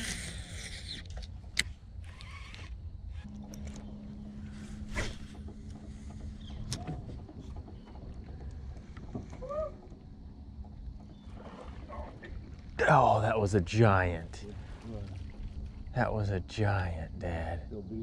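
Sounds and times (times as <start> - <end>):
electric trolling motor hum: 0.0 - 17.2
low rumble of water: 2.8 - 18.0.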